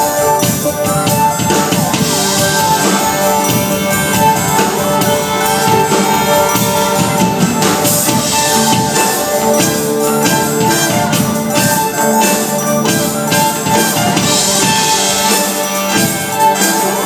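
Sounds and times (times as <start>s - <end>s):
drum kit steady beat: 0.0s - 17.0s.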